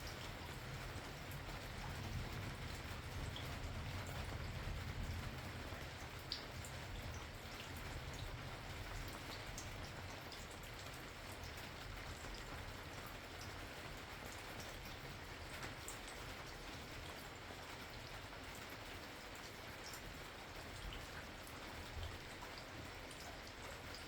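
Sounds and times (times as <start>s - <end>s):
raindrops ticking on a surface: 0.0s - 24.0s
steady rain falling: 0.0s - 24.0s.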